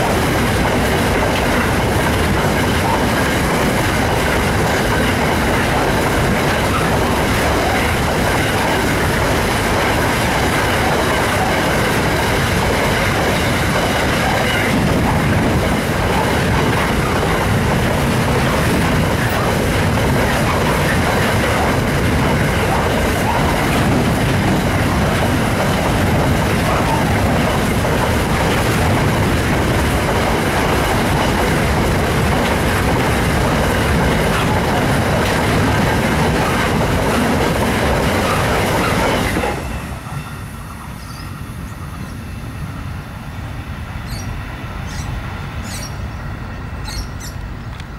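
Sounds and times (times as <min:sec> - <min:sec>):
freight train wagons rolling past: 0:00.0 - 0:47.9.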